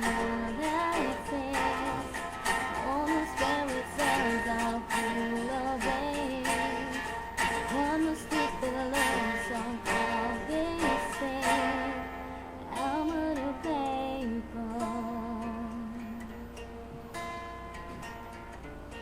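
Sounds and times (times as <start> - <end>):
woman singing: 0.0 - 16.5
strummed acoustic guitar: 0.0 - 19.0.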